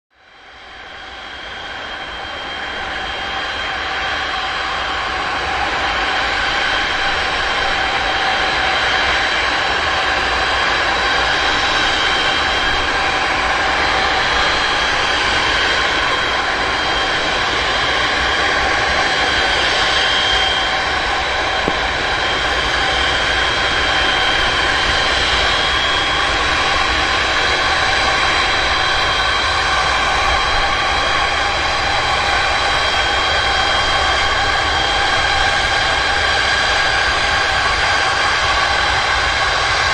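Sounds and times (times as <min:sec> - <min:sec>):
jet engines running: 0:00.2 - 0:39.9.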